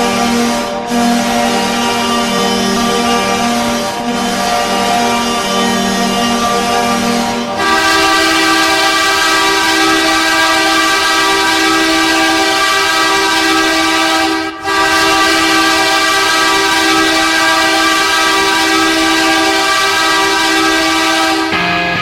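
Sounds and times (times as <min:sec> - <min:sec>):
goal horn blasts: 0:00.0 - 0:22.0.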